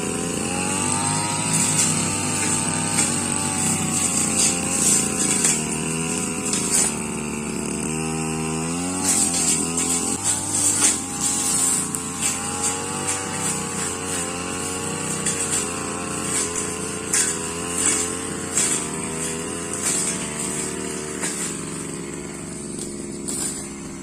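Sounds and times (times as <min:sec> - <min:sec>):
blade cutting grass: 0:00.0 - 0:24.0
brush cutter engine running: 0:00.0 - 0:24.0.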